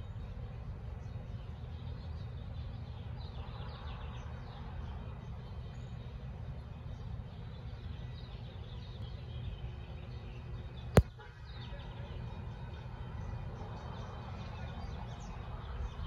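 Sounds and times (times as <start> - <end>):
low rumble of street: 0.0 - 16.0.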